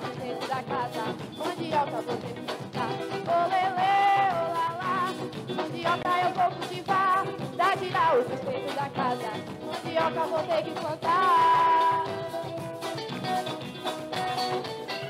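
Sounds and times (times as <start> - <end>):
dance music with percussion: 0.0 - 15.0.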